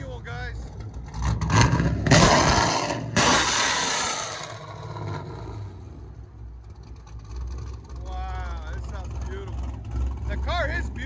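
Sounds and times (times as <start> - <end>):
car engine revving then idling: 0.6 - 11.0.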